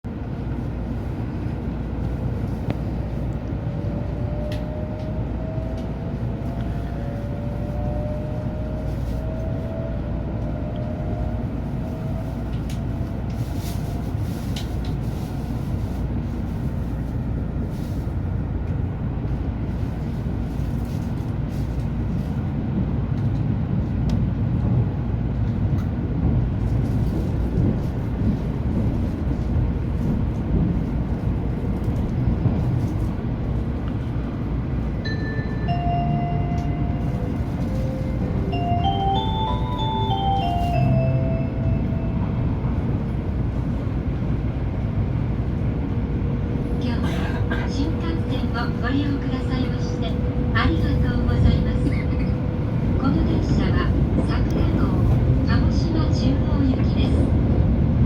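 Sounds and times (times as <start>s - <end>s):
train cabin low rumble: 0.0s - 58.0s.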